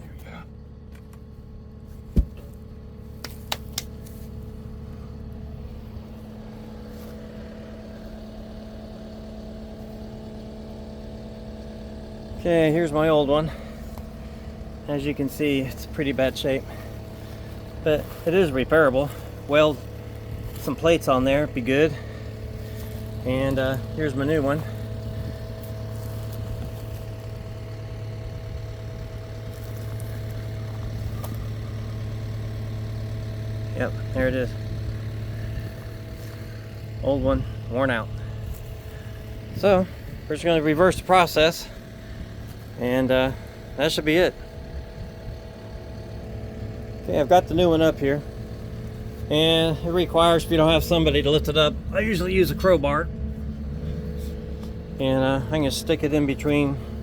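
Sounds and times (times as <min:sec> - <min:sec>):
machine engine idling: 0:00.0 - 0:57.0.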